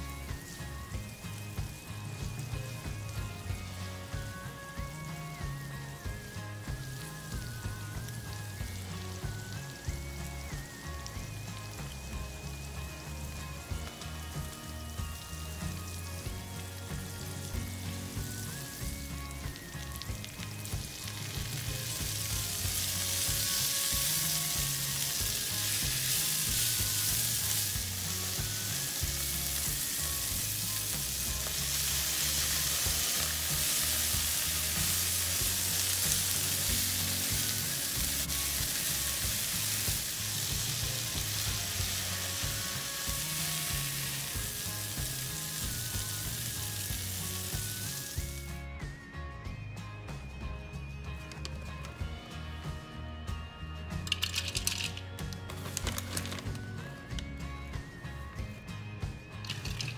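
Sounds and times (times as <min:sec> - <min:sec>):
vegetables sizzling in hot oil: 0:00.0 - 0:48.6, 0:59.4 - 0:59.9.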